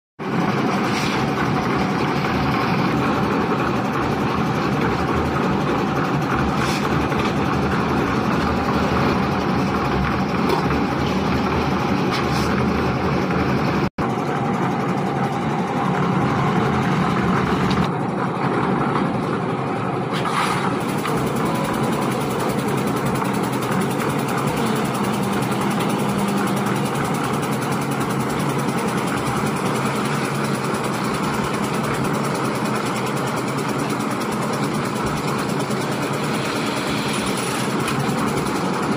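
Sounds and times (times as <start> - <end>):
concrete mixer engine running: 0.2 - 38.9.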